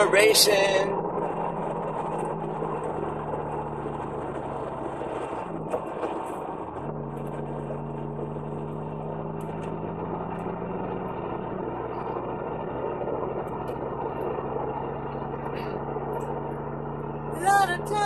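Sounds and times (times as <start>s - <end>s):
car engine and road noise: 0.0s - 18.0s
pitched engine hum: 0.0s - 18.0s.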